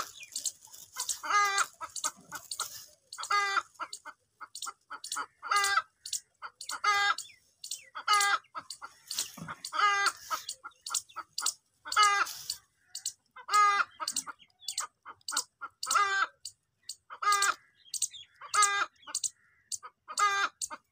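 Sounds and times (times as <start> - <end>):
hen clucking: 0.0 - 20.9.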